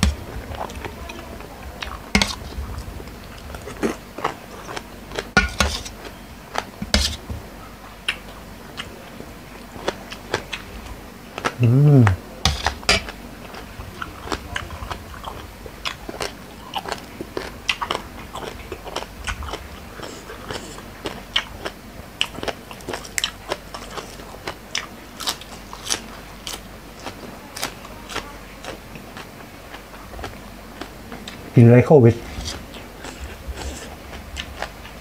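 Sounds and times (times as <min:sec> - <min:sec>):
chewing and crunching salad: 0:00.0 - 0:35.0.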